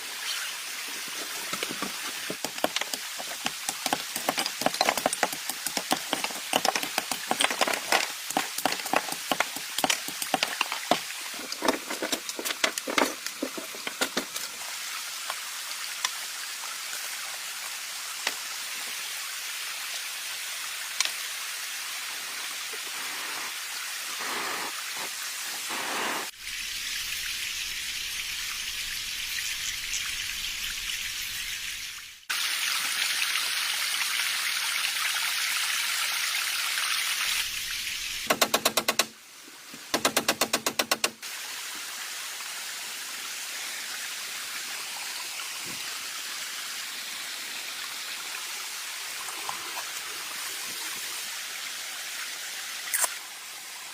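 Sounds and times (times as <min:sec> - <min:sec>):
rain hiss: 0:00.0 - 0:53.9.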